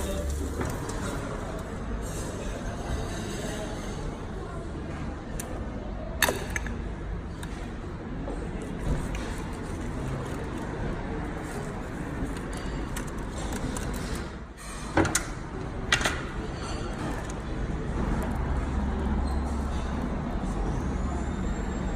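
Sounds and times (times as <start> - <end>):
traffic din: 3.8 - 21.9.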